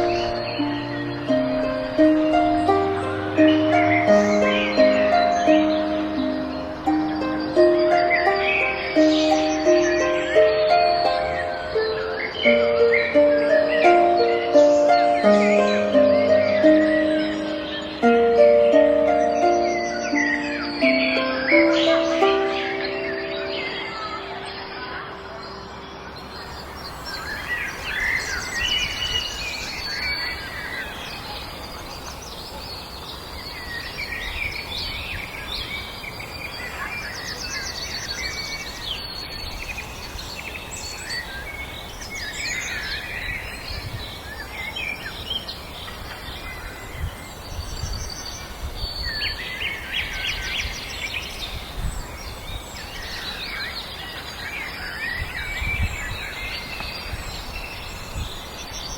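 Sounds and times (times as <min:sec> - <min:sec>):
outdoor background hiss: 0:00.0 - 0:58.9
songbirds singing: 0:00.0 - 0:58.9.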